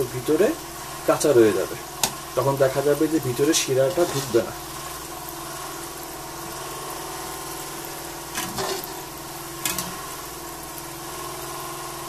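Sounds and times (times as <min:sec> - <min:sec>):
dough deep-frying in hot oil: 0:00.0 - 0:12.0.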